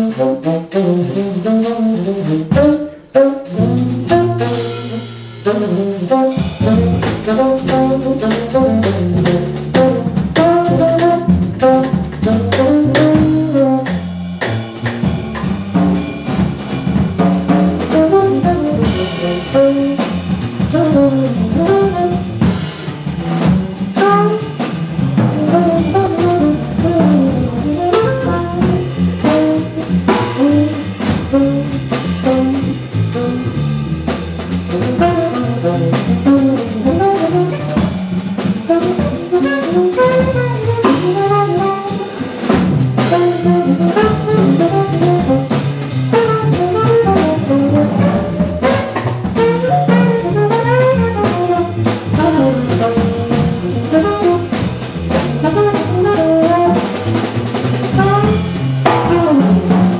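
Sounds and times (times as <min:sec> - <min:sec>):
tenor saxophone melody: 0:00.0 - 0:14.0, 0:17.9 - 0:22.5, 0:23.7 - 0:24.8, 0:25.4 - 0:33.8, 0:34.7 - 0:54.7, 0:55.3 - 0:59.9
drum kit with ride cymbal: 0:00.0 - 0:59.9
walking double bass: 0:00.0 - 0:59.9.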